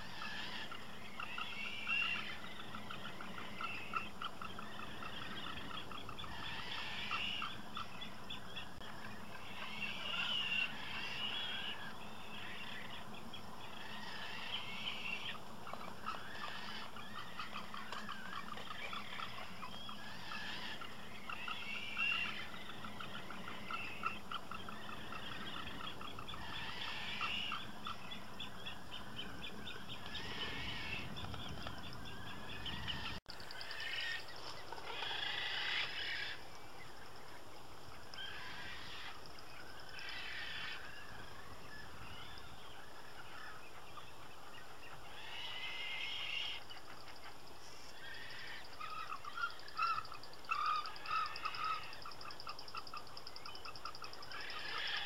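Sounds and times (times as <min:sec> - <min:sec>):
birds rattling chattering calls: 0:00.0 - 0:36.4, 0:37.9 - 0:55.0.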